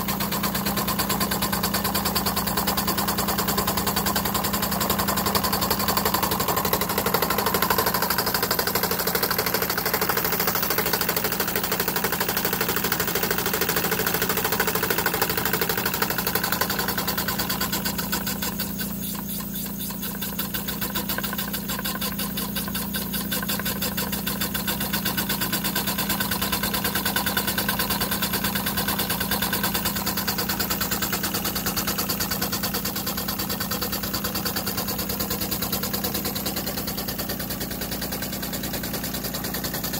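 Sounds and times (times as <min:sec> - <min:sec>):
toy steam engine running: 0:00.0 - 0:39.9.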